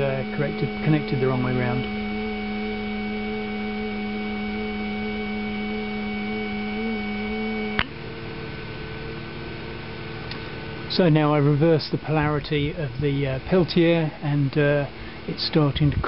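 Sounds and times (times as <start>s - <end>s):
pump and fan electric hum: 0.0s - 16.0s.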